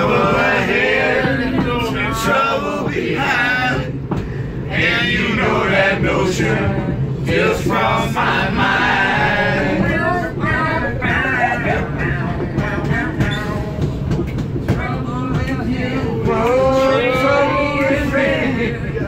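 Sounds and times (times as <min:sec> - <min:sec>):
men singing unaccompanied: 0:00.0 - 0:04.0, 0:04.7 - 0:13.9, 0:14.7 - 0:19.0
train carriage rumble: 0:00.0 - 0:19.0.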